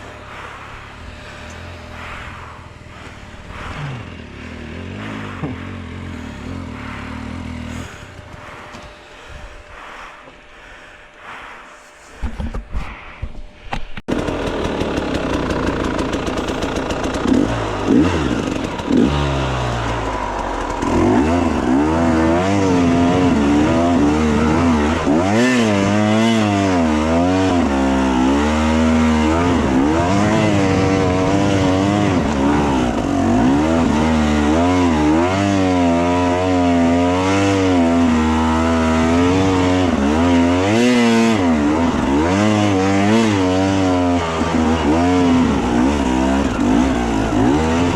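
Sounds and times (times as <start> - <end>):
dirt bike engine revving: 0.0 - 10.0, 14.1 - 47.9.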